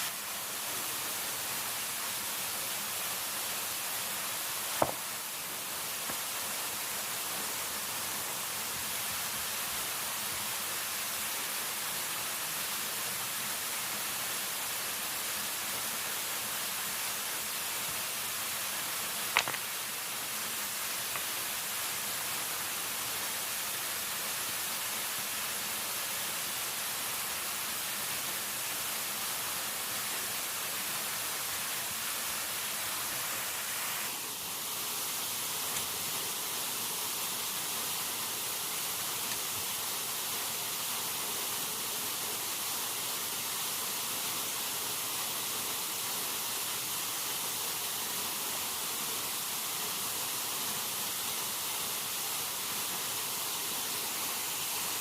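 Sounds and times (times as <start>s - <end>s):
water hissing: 0.0s - 55.0s.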